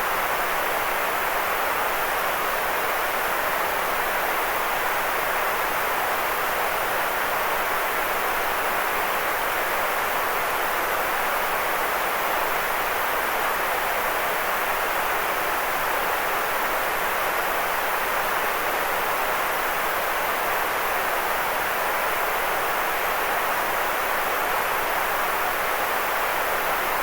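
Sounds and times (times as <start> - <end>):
steady white noise hiss: 0.0 - 27.0.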